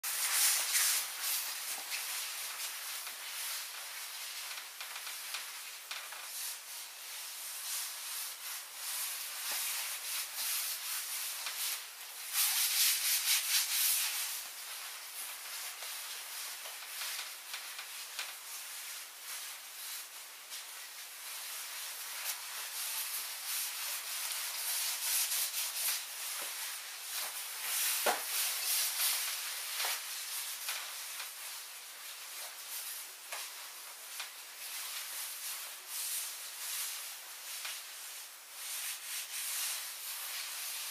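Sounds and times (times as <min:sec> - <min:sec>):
dress rustling: 0:00.0 - 0:40.9.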